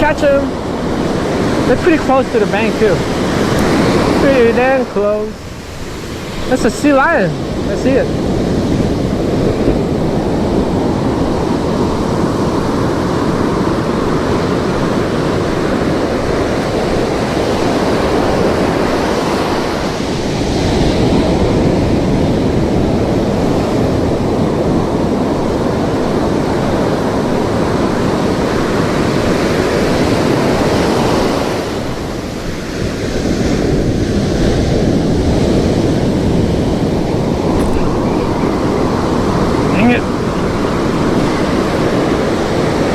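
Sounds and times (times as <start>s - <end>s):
ocean surf breaking on beach: 0.0s - 42.9s
wind on microphone: 0.0s - 42.9s.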